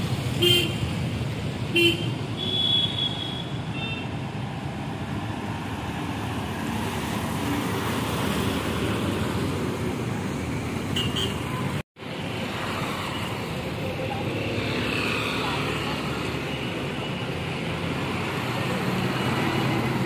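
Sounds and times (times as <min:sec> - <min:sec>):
bus engine and tyre noise: 0:00.0 - 0:20.0.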